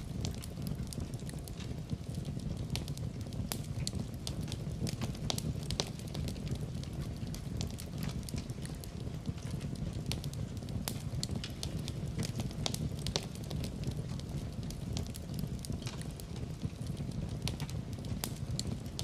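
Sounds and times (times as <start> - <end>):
fire crackling in fireplace: 0.0 - 19.0
steady low rumble: 0.0 - 19.0.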